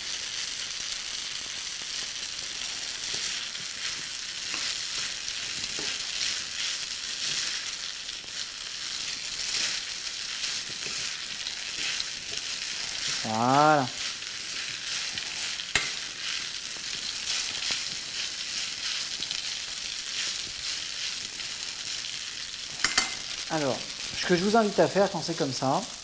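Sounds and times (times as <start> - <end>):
pasta sizzling in a pan: 0.0 - 26.0.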